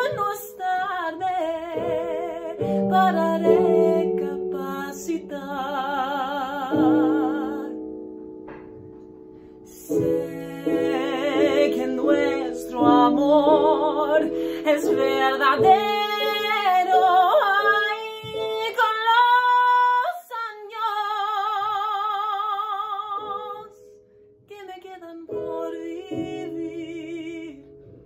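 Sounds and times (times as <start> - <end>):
woman singing ballad: 0.0 - 7.9, 9.7 - 23.9, 24.5 - 27.9.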